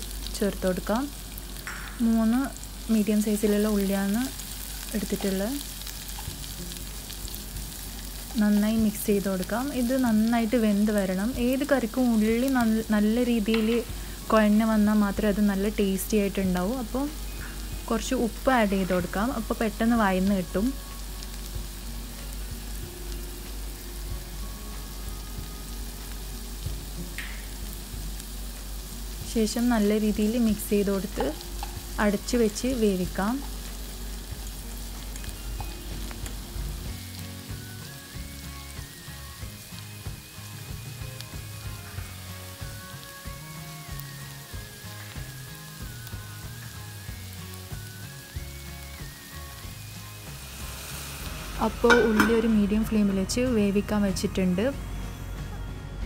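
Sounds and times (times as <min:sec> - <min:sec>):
onions sizzling in oil: 0:00.0 - 0:55.6
background music: 0:00.0 - 0:56.0.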